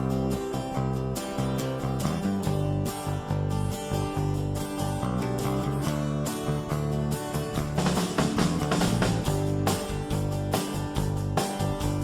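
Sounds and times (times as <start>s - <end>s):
strummed guitar music: 0.0s - 12.0s.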